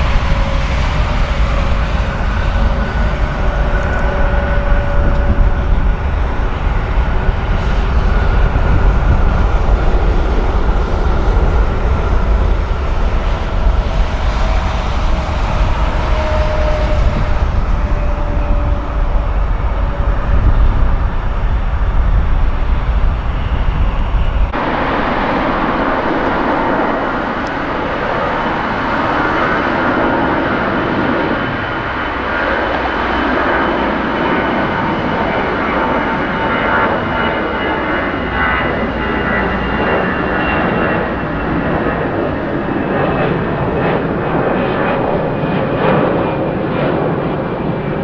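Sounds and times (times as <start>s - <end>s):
jet engine hissing roar: 0.0s - 48.0s
jet engine rumble and whine: 0.0s - 48.0s.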